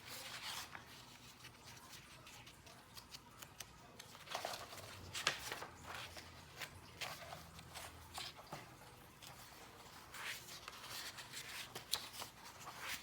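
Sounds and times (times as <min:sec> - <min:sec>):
paper pages rustling: 0:00.0 - 0:13.0.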